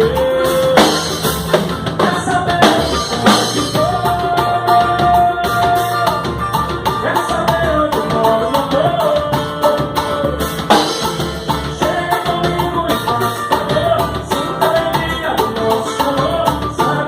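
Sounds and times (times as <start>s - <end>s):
samba band playing: 0.0s - 17.0s.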